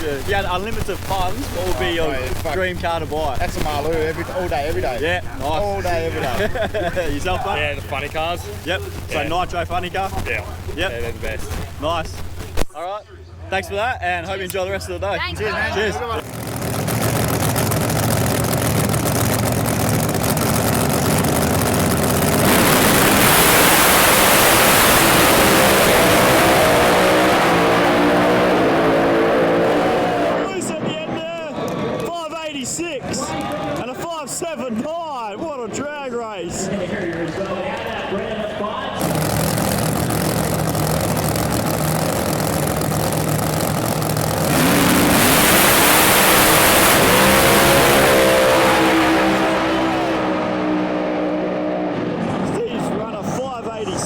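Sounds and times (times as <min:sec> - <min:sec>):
drag racing car engines: 0:00.0 - 0:12.6, 0:13.4 - 0:33.3, 0:36.6 - 0:54.0.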